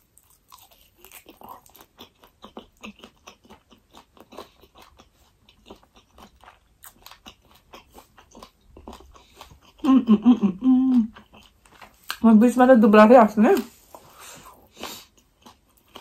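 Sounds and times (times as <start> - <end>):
person chewing with wet crunches: 0.0 - 12.2, 13.5 - 16.0.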